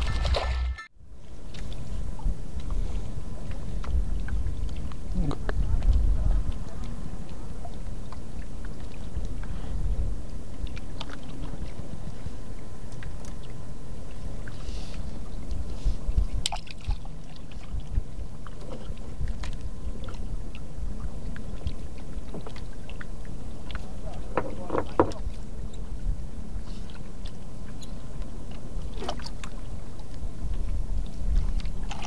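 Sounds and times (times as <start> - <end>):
boat engine rumble: 0.0 - 32.0.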